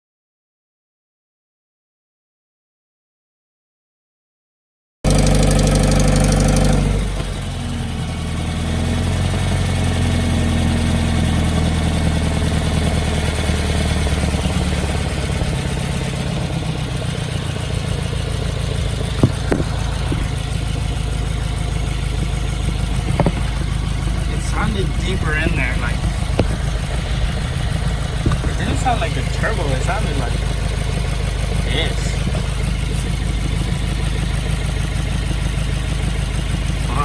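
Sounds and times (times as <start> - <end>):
car engine revving: 5.1 - 37.0.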